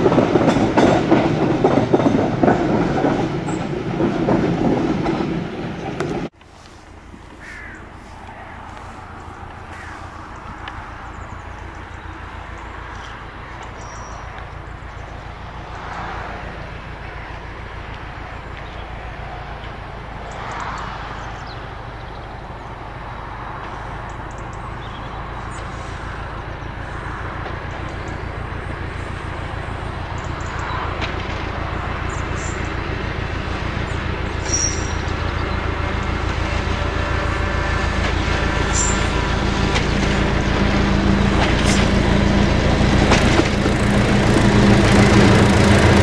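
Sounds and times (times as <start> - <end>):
diesel locomotive engine: 0.0 - 46.0.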